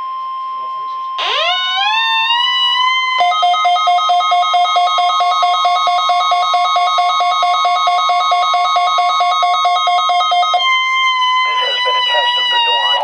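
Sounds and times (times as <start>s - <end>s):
siren-like tone: 0.0s - 13.0s.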